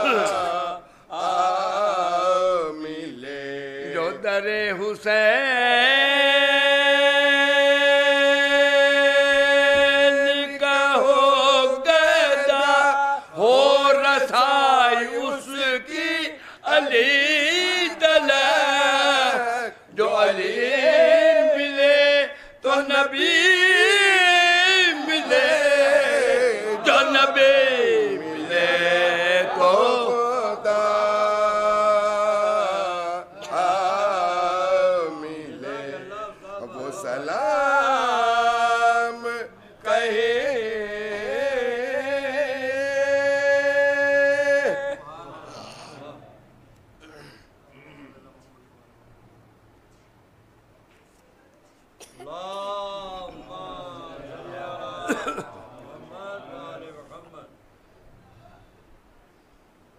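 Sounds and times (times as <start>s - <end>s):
group of men singing unaccompanied: 0.0s - 46.2s, 52.2s - 57.0s.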